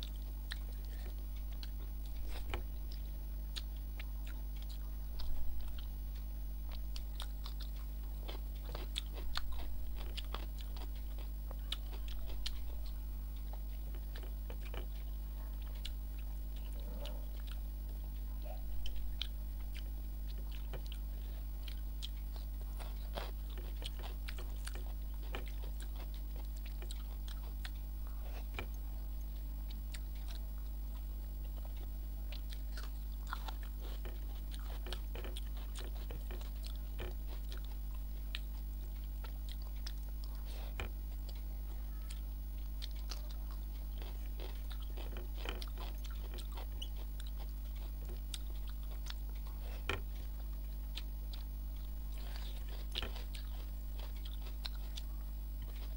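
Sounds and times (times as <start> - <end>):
chewing and mouth sounds: 0.0 - 55.9
steady low hum: 0.0 - 55.9.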